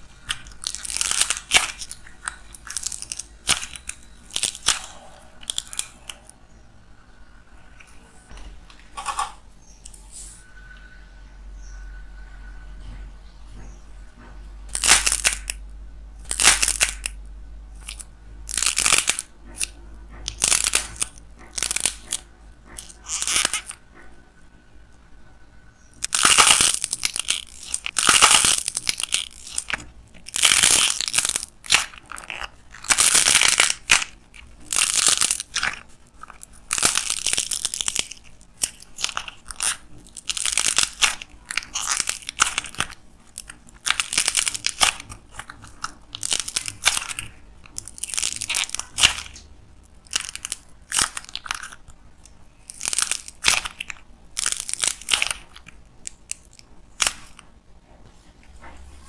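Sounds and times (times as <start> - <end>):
hardened clay cracking and crunching: 0.0 - 6.6, 14.7 - 24.2, 25.8 - 57.6.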